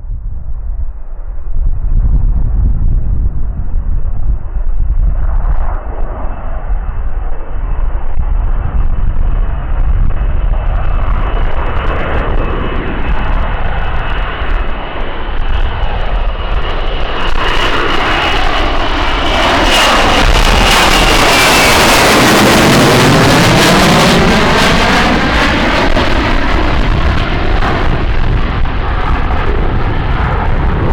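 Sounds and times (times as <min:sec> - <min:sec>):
jet engine whine and rush: 0:00.0 - 0:30.9.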